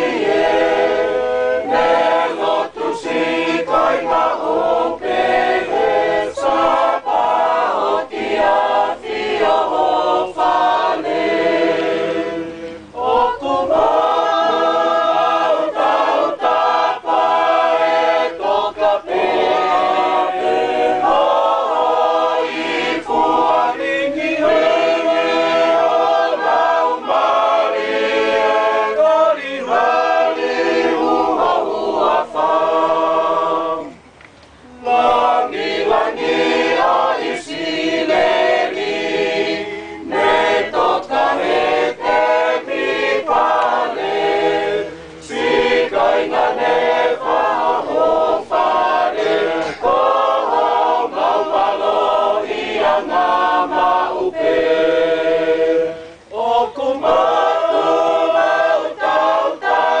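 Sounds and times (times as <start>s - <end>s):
choir singing unaccompanied: 0.0s - 60.0s.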